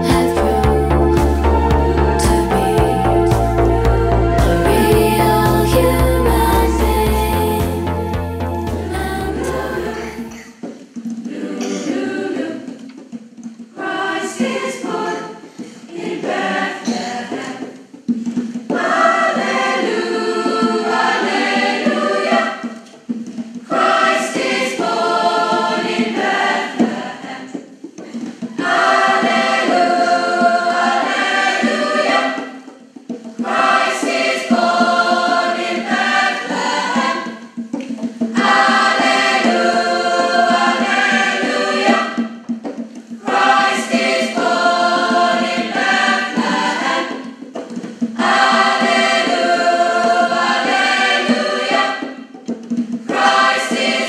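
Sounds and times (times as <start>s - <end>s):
choir singing: 0.0s - 13.0s, 13.8s - 17.9s, 18.6s - 22.9s, 23.7s - 54.0s.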